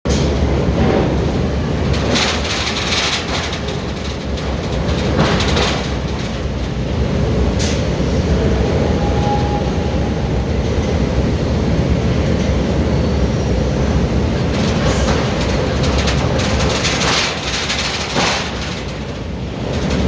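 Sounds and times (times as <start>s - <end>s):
furnace plant low rumble: 0.1s - 20.0s.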